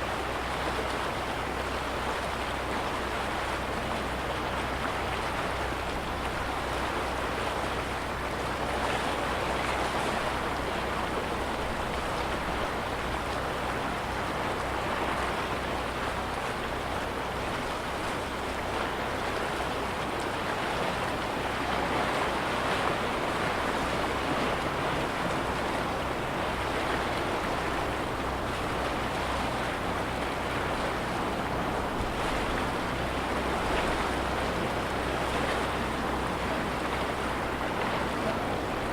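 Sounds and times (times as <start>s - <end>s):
lake waves lapping on shore: 0.0s - 38.9s.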